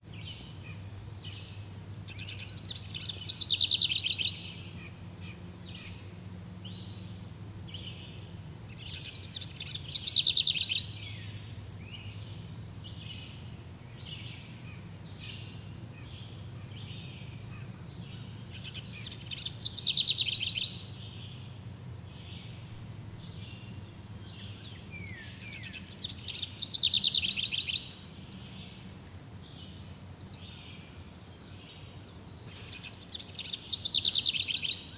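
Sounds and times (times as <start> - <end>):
birds chirping: 0.0 - 34.9
low steady hum: 0.1 - 34.3
songbird trilling: 0.2 - 34.9.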